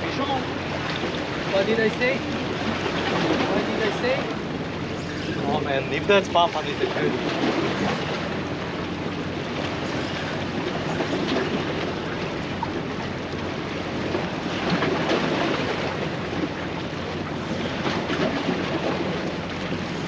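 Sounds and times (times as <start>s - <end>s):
waves washing against rocks: 0.0s - 20.0s.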